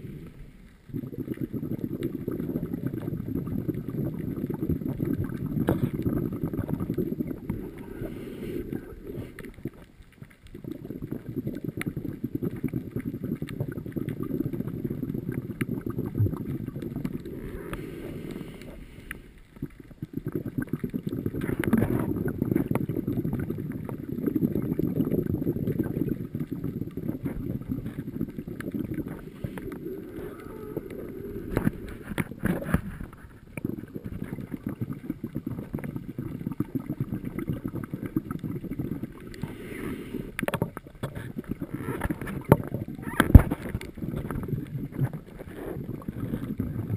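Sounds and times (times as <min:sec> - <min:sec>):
bubbling of divers' breathing: 0:00.0 - 0:46.9
muffled underwater rumble: 0:00.0 - 0:46.9.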